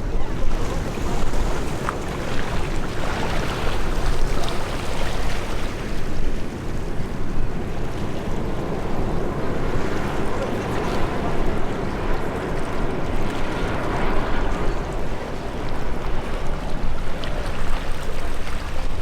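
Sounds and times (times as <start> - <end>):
jet engines rumbling: 0.0 - 19.0
wind on microphone: 0.0 - 19.0.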